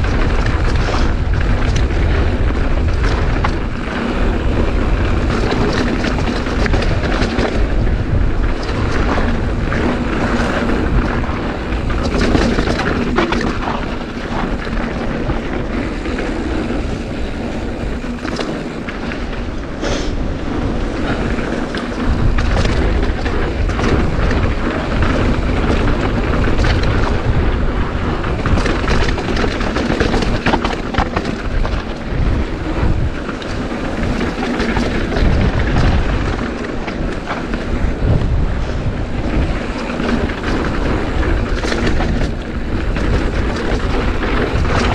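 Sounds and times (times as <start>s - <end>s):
mountain bike rattling on dirt trail: 0.0s - 44.9s
wind buffeting microphone: 0.0s - 44.9s.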